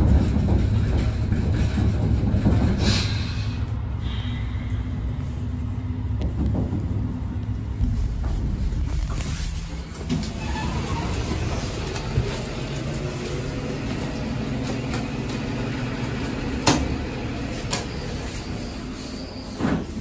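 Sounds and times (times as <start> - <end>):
elevator car rumbling: 0.0 - 20.0.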